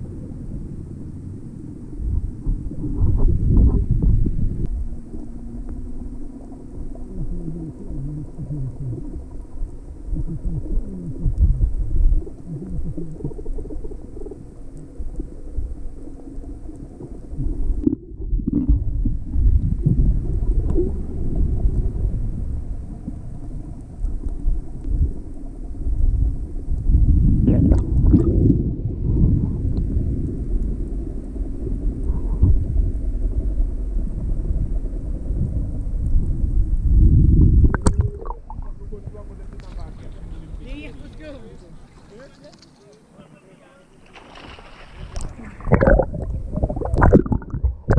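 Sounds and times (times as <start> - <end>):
underwater water swishing: 0.0 - 47.9
bubbling: 1.7 - 42.5, 44.1 - 47.9.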